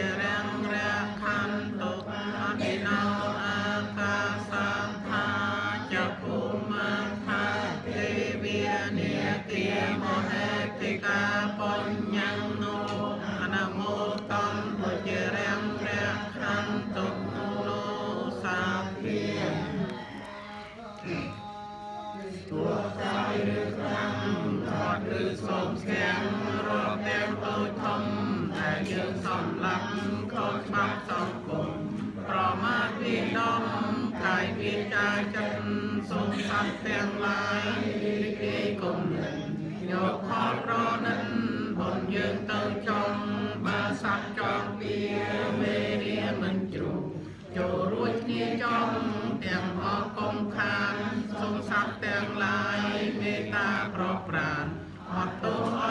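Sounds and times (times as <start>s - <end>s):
group chanting in unison: 0.0s - 55.9s.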